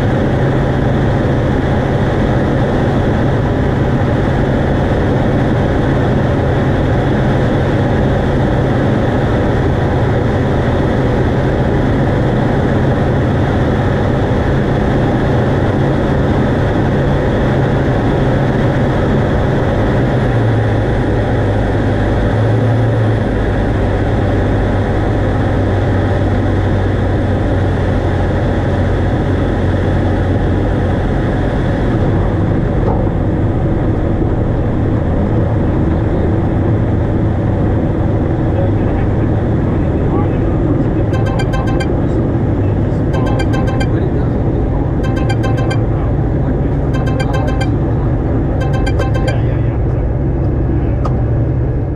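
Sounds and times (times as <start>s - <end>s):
light aircraft engine drone: 0.0s - 43.1s.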